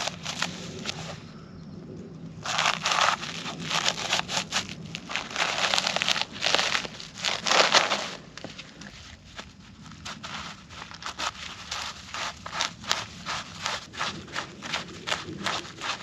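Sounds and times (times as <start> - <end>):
crinkling rustles: 0.0 - 1.3, 2.4 - 16.0.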